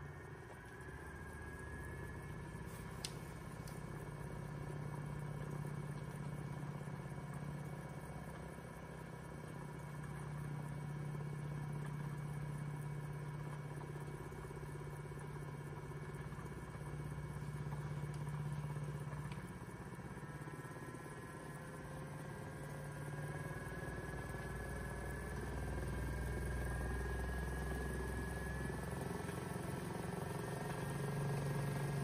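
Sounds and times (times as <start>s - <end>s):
electric spinning wheels humming: 0.0s - 32.0s.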